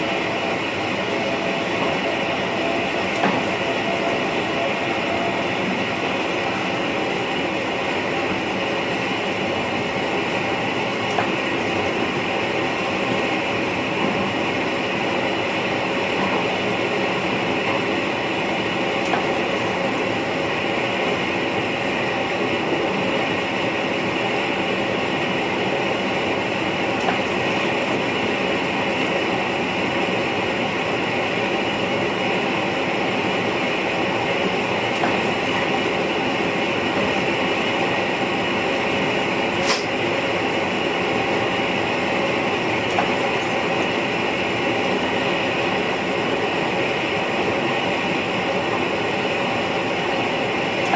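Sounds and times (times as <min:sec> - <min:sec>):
electric train running: 0:00.0 - 0:50.9.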